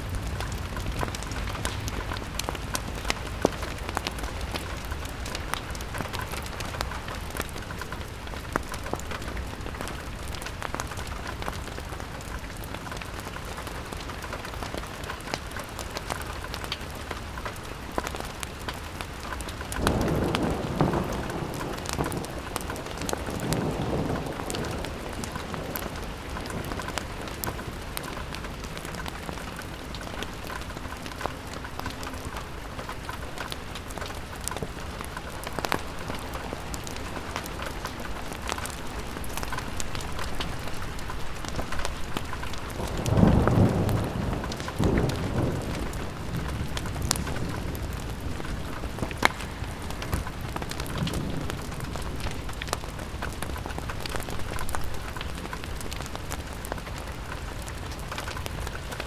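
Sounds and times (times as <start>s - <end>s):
thunder rumble: 0.0s - 13.2s, 19.7s - 59.0s
rain on window glass: 0.0s - 59.0s.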